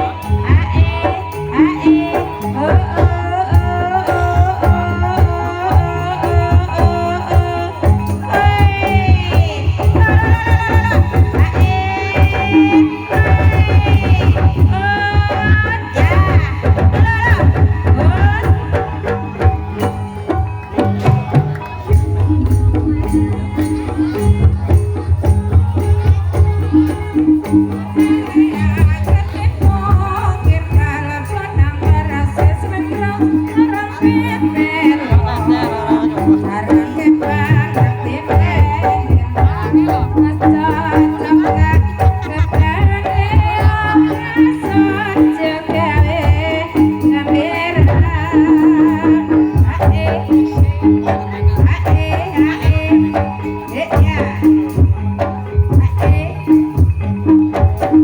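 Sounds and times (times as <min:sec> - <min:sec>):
drums beating a steady pattern: 0:00.0 - 0:58.0
person singing with wavering voice: 0:00.0 - 0:58.0.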